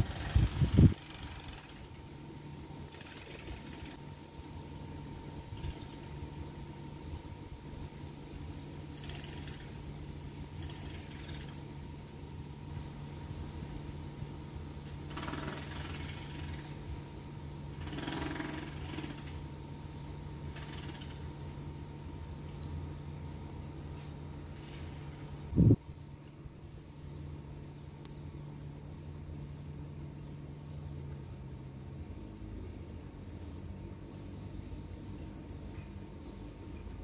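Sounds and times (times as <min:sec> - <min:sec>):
small birds chirping: 0:00.0 - 0:14.3, 0:14.9 - 0:31.6, 0:33.0 - 0:37.0
steady low hum: 0:00.0 - 0:37.0.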